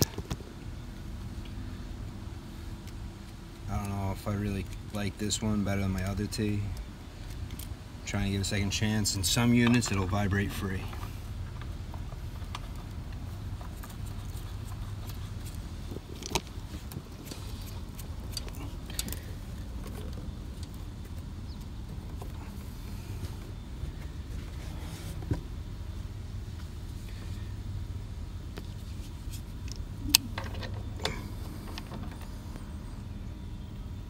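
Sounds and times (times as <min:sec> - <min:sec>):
air conditioning unit humming: 0:00.0 - 0:34.0.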